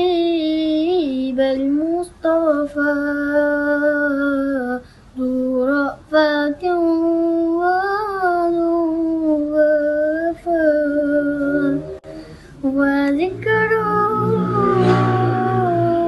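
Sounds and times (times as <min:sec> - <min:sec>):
boy singing unaccompanied: 0:00.0 - 0:16.0.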